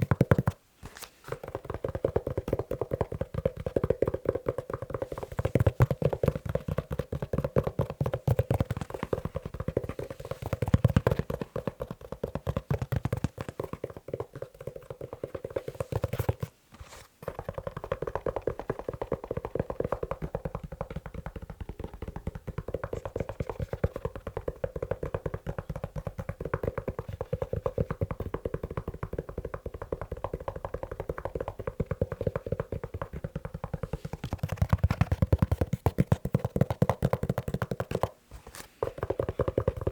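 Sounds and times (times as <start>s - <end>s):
fast tapping on leather shoe: 0.0s - 0.6s, 1.3s - 16.5s, 17.2s - 39.9s.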